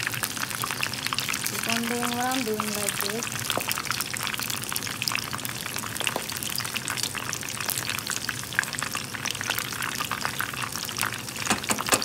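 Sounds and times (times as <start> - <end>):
oil sizzling in deep-frying: 0.0 - 12.0.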